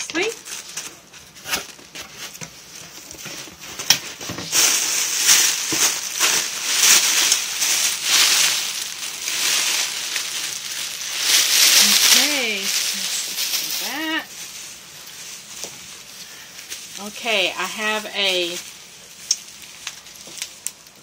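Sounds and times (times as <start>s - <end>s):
plastic air pillows crinkling: 0.0s - 21.0s.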